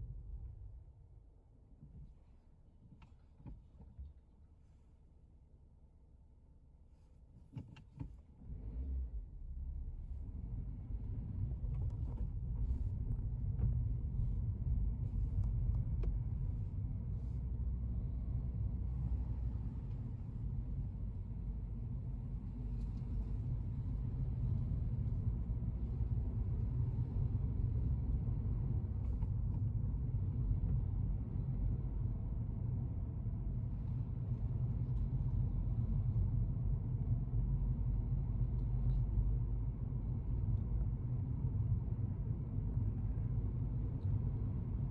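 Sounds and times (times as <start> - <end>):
car cabin road and engine rumble: 5.8 - 44.9.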